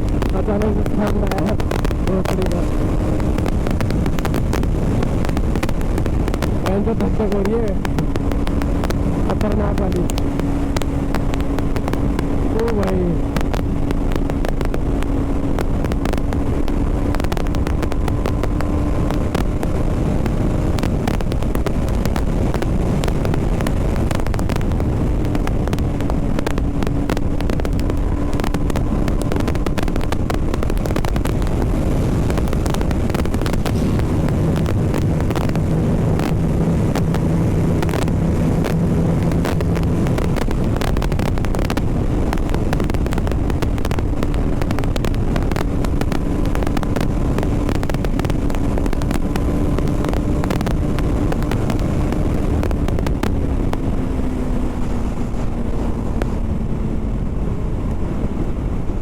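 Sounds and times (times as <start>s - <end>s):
motorcycle engine running: 0.0s - 59.0s
wind rumble on microphone: 0.0s - 59.0s.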